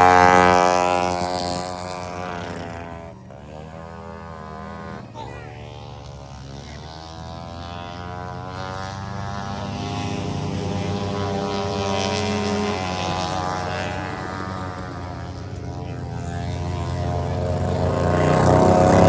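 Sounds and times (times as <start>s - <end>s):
lawnmower engine running at high revs: 0.0s - 19.0s.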